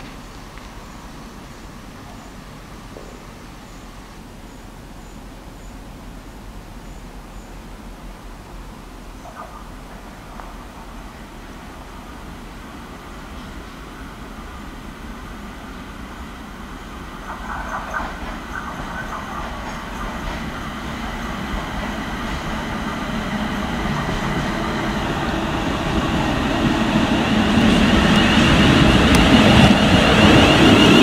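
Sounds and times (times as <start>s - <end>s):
high train whine: 0.0s - 31.0s
train rumble and wheel noise: 0.0s - 31.0s.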